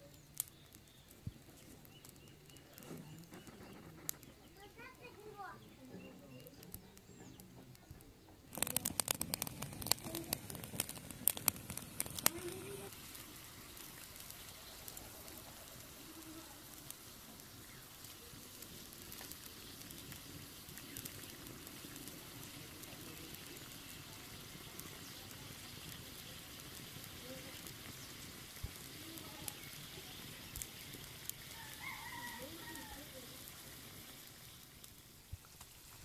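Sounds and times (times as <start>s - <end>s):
curry boiling in a metal pan: 0.0s - 36.0s.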